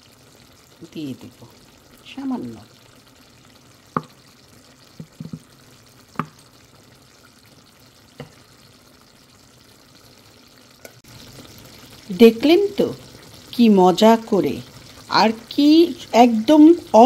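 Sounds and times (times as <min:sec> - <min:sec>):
curry sizzling in a pan: 0:00.0 - 0:17.0.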